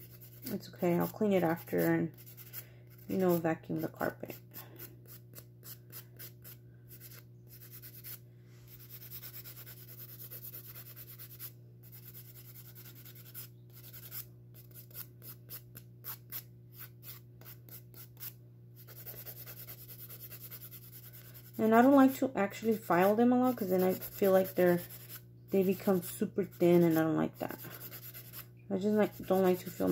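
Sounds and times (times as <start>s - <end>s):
nail file rasping on fingernails: 0.0s - 3.9s, 5.0s - 29.9s.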